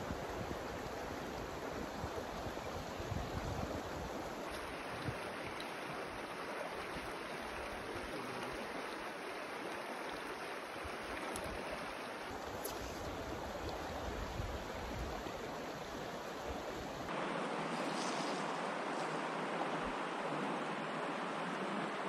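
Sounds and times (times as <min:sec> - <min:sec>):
river flowing over rocks: 0:00.6 - 0:22.0.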